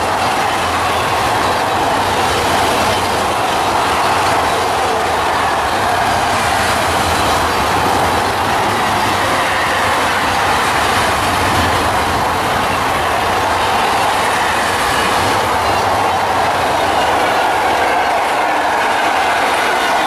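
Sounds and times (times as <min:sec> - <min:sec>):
freight train wheels rumbling on rail: 0:00.0 - 0:20.0.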